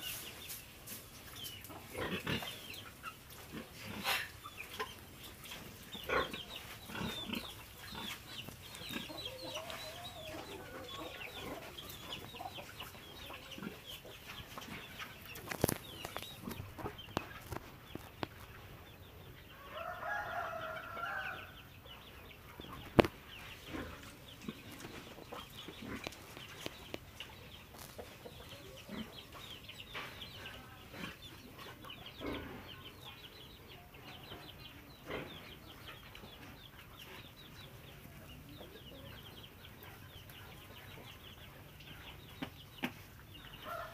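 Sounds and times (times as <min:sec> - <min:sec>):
chickens clucking and chirping: 0:00.0 - 0:43.9.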